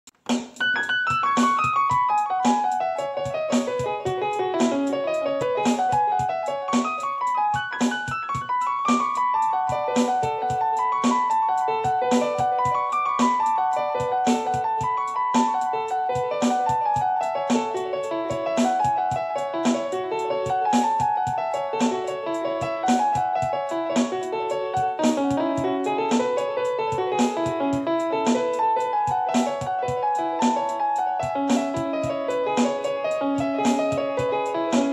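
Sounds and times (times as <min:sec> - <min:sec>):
steady beat with low note: 0:00.1 - 0:34.9.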